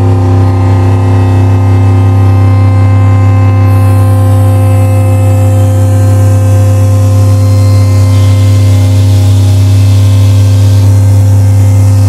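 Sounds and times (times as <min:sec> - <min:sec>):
electronic synthesizer drone: 0:00.0 - 0:12.0.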